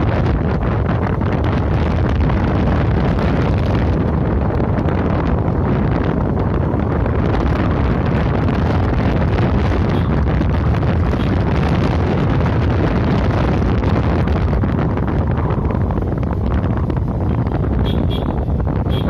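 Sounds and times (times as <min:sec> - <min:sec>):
motorcycle running: 0:00.0 - 0:19.0
wind rushing on microphone: 0:00.0 - 0:19.0.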